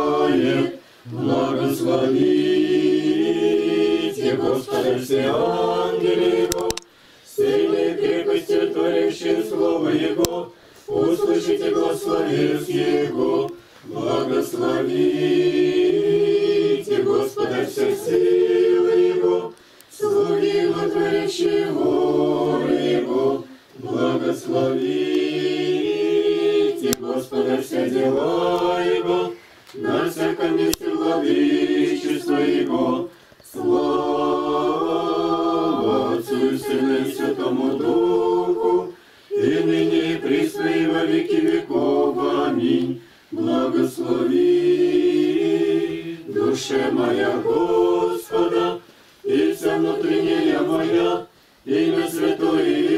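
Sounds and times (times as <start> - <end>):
congregation chanting a cappella: 0.0 - 52.9.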